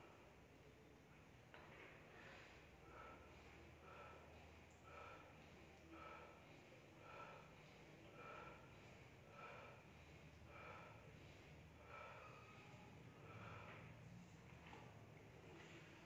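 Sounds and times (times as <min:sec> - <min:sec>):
man breathing hard through nose: 0:02.1 - 0:16.0.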